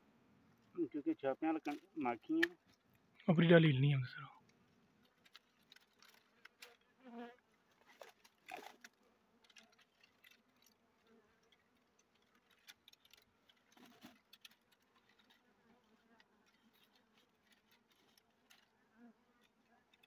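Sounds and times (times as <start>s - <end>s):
light clicks and twig rustles: 0.4s - 3.3s, 4.3s - 20.0s.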